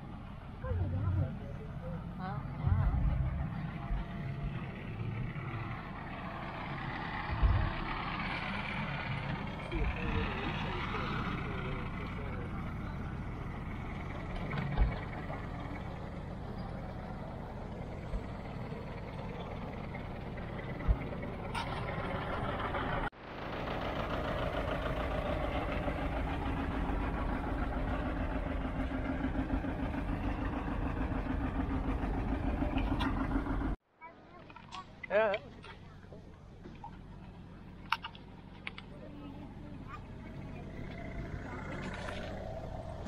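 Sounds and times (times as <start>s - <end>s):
engine chugging: 0.0s - 43.0s
tractor engines idling: 0.0s - 43.0s.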